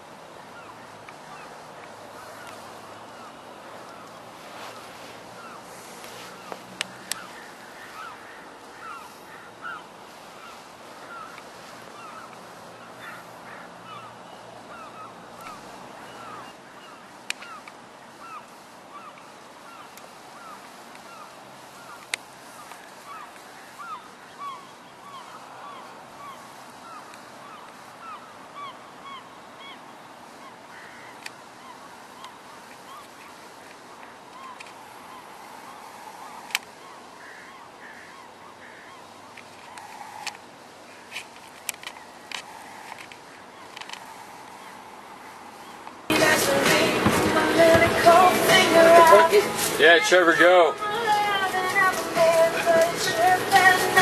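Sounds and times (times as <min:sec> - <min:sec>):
flock of birds calling: 0:00.0 - 0:54.0.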